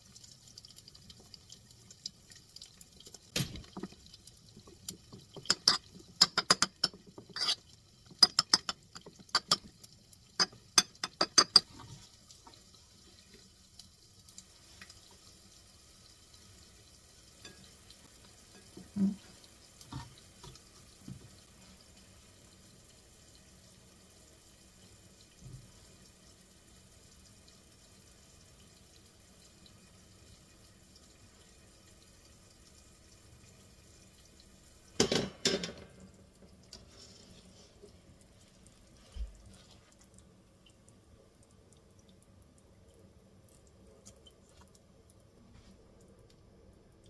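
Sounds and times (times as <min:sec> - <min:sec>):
faint steady background noise: 0:00.0 - 0:47.0.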